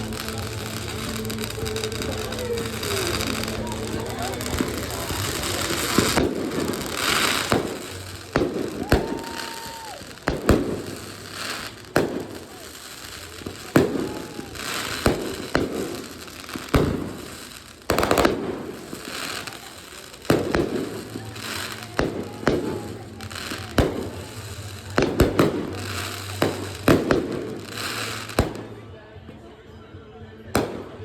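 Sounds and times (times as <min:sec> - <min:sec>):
fireworks bangs with echoing rumble: 0:00.0 - 0:29.0, 0:30.5 - 0:31.0.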